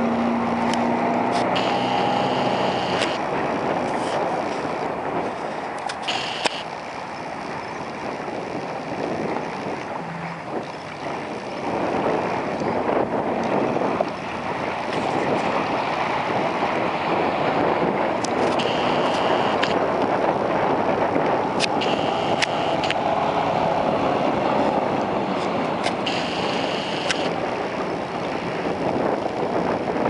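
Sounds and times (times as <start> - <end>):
outboard motor running: 0.0 - 30.0
wind buffeting microphone: 0.0 - 30.0.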